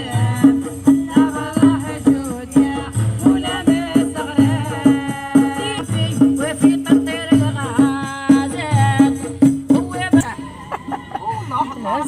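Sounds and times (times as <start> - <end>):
hand drums beating: 0.0 - 10.3
women singing: 0.0 - 10.4.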